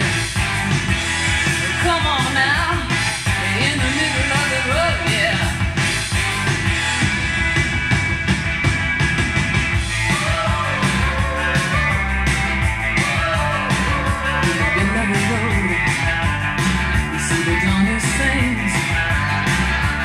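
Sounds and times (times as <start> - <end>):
rock music from vinyl record: 0.0 - 20.0.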